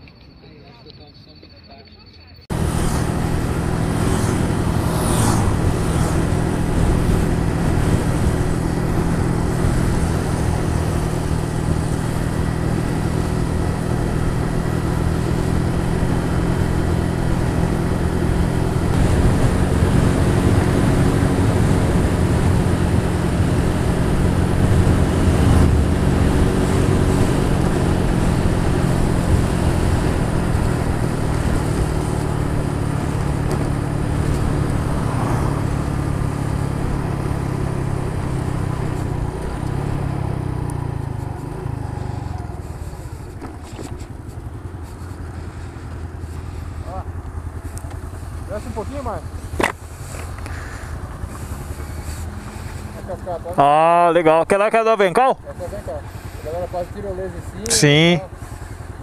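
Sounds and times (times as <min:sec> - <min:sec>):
wind and road noise: 0:00.0 - 0:59.0
motorcycle engine running: 0:02.4 - 0:59.0.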